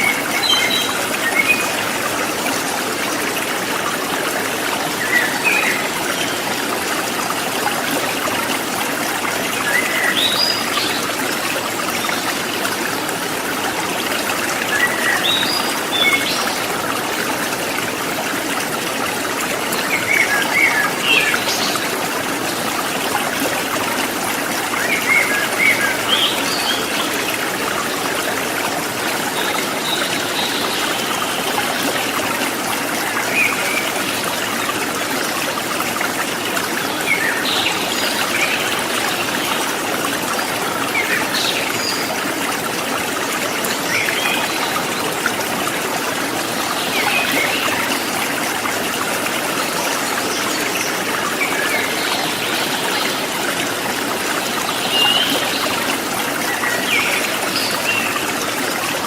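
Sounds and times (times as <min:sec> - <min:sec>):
river running over rocks: 0:00.0 - 0:59.0.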